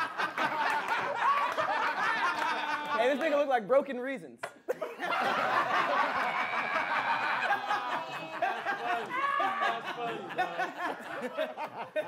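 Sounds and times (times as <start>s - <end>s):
group of people laughing: 0.0s - 3.2s, 4.7s - 12.0s.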